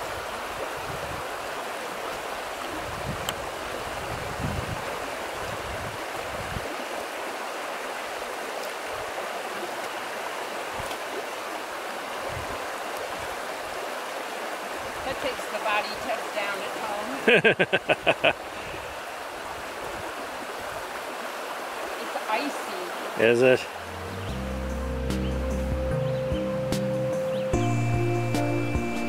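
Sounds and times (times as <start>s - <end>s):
brook babbling over stones: 0.0s - 25.4s.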